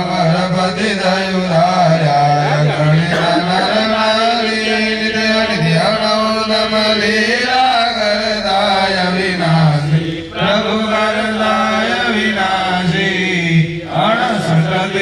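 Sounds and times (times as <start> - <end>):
voice chanting on steady pitch: 0.0 - 15.0.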